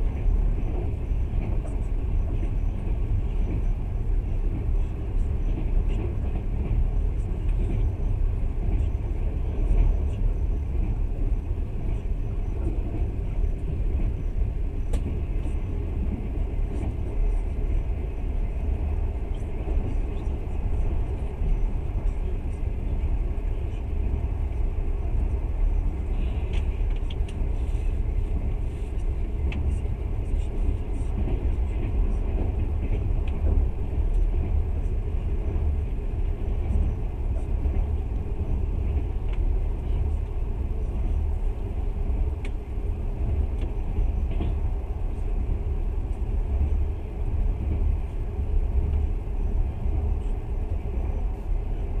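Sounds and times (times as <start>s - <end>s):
wheels rumbling on rails: 0.0s - 52.0s.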